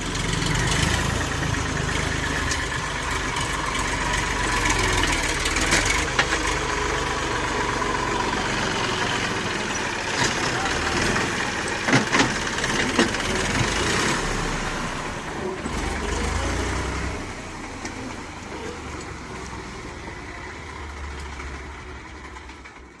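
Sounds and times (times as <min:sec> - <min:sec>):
tractor diesel engine rumbling: 0:00.0 - 0:23.0.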